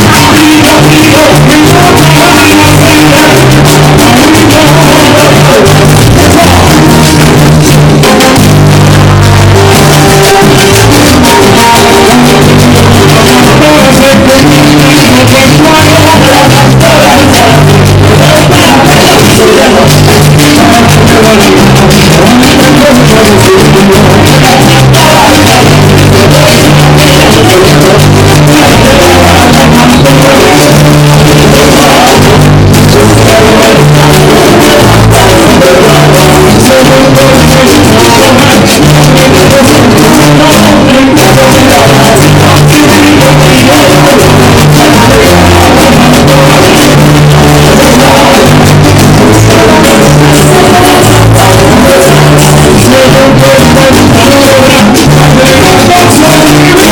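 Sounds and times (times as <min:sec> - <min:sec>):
live latin american band: 0:00.0 - 0:56.9
person singing: 0:00.0 - 0:56.9.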